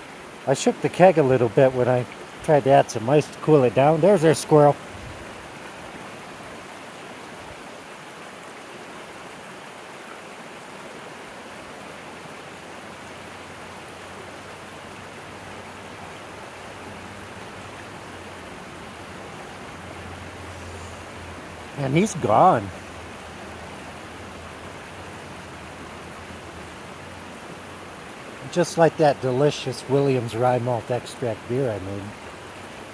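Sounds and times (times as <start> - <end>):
outdoor background rush: 0.0 - 32.9.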